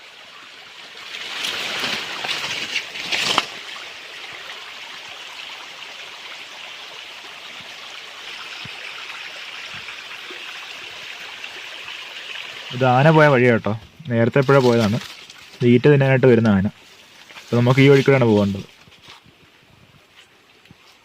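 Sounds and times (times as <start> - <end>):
stream trickling over stones: 0.0 - 21.0.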